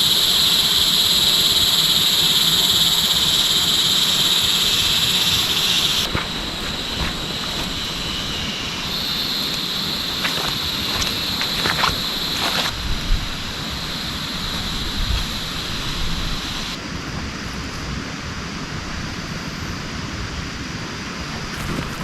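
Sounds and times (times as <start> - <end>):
high steady whine: 0.0 - 22.0.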